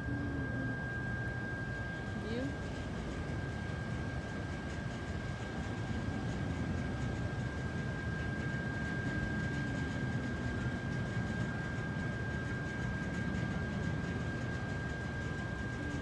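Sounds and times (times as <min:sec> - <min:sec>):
high-pitched whine: 0:00.0 - 0:16.0.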